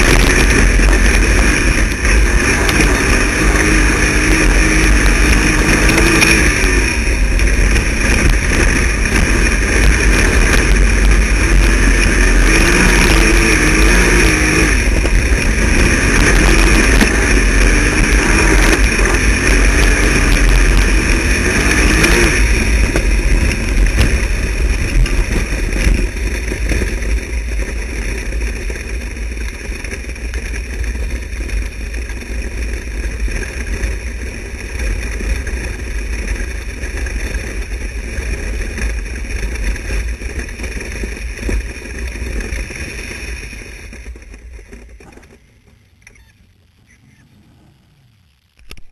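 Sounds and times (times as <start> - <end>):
race car engine revving: 0.0 - 45.4, 46.7 - 48.8
wind and track noise: 0.0 - 48.9.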